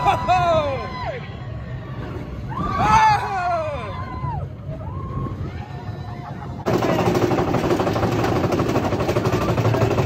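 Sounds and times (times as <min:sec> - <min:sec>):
roller coaster rumbling on track: 0:00.0 - 0:10.0.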